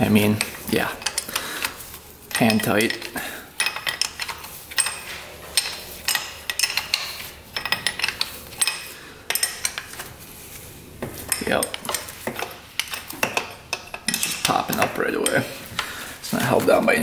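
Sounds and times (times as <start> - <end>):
wrench and nuts clinking: 0.0 - 10.1, 11.2 - 15.9.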